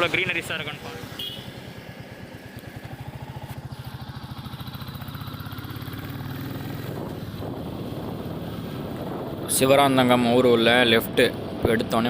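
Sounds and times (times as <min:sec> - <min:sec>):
motorcycle engine running: 0:01.0 - 0:12.0.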